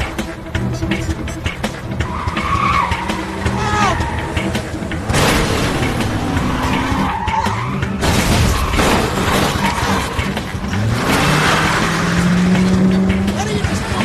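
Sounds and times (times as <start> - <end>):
car engines revving: 0.0 - 14.0
tyres skidding and squealing: 0.0 - 14.0.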